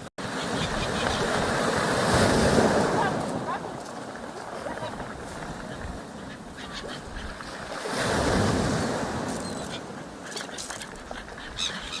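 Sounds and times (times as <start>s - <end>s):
waves breaking on stony shore: 0.2s - 12.0s.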